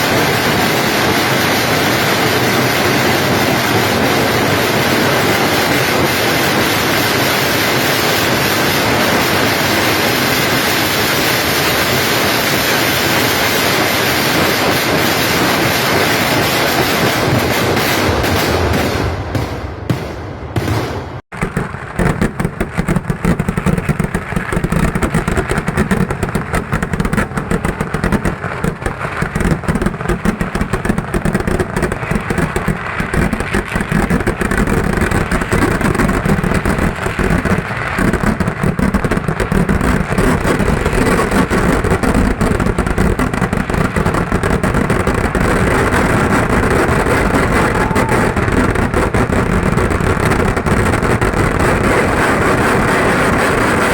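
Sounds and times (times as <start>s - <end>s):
firecracker explosions: 0.0s - 53.9s.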